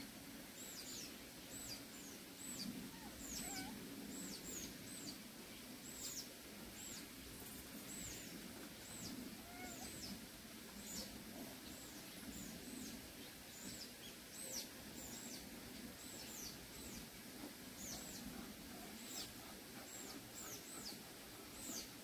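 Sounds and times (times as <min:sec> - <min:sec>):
faint low background noise: 0:00.0 - 0:22.0
small birds chirping: 0:00.5 - 0:22.0.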